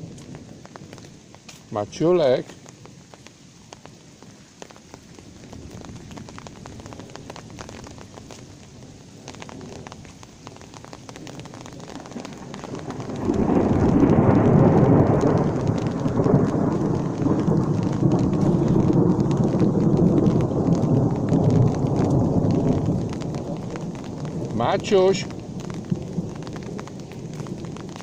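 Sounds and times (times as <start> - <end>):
thunder rumbling: 0.0 - 1.2, 4.7 - 28.0
steady rain: 0.0 - 28.0.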